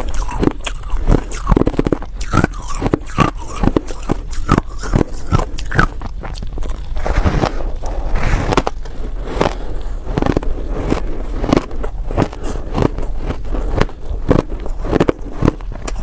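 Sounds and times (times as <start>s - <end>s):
crunchy chewing of ice: 0.0s - 16.0s.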